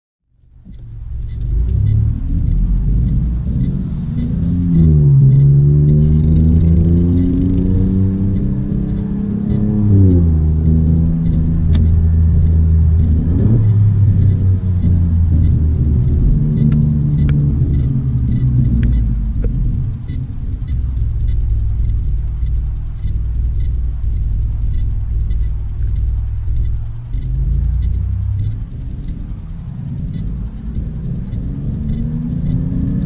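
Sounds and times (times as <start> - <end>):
car engine under hard driving: 0.3 - 33.0.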